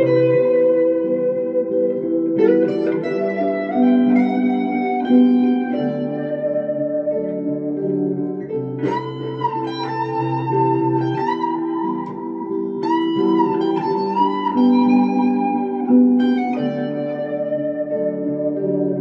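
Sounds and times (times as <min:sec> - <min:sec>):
electric guitar chords and melody: 0:00.0 - 0:19.0.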